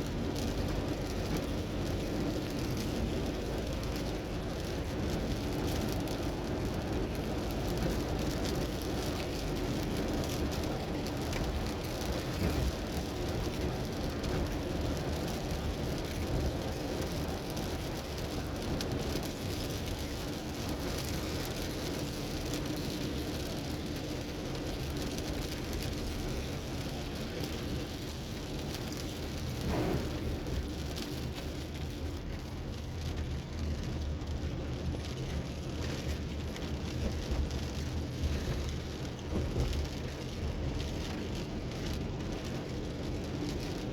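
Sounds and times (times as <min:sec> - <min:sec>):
rain pattering on a car: 0:00.0 - 0:43.9
road and engine rumble: 0:00.0 - 0:43.9.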